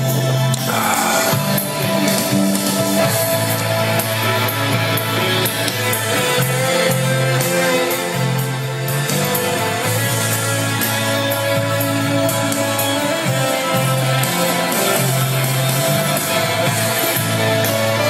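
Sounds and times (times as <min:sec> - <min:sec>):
guitar bass and drums music: 0:00.0 - 0:18.0.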